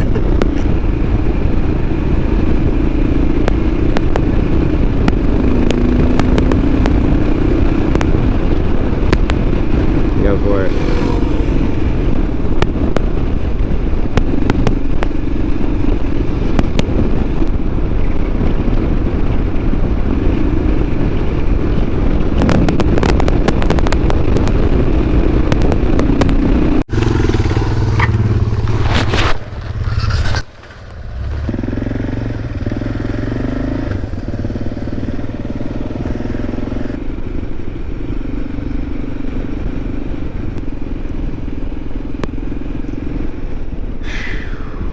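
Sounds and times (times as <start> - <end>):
wind rush: 0.0 - 37.0, 43.2 - 44.9
motorcycle engine running: 0.0 - 44.0.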